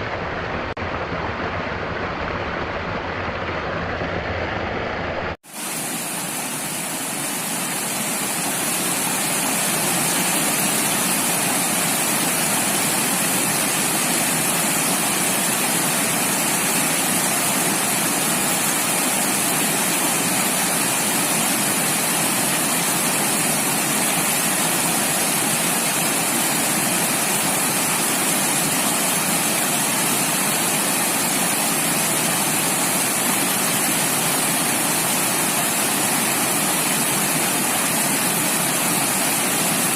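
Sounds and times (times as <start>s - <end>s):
rushing falling water: 5.4s - 39.9s.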